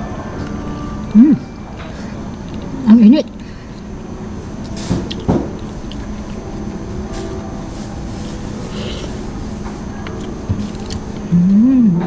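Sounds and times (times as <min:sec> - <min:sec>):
busy food court din: 0:00.0 - 0:12.0.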